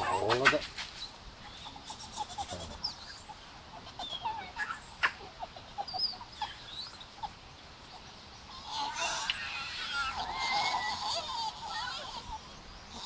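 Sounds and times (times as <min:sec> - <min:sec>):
monkeys chirping and squeaking: 0:00.0 - 0:13.0.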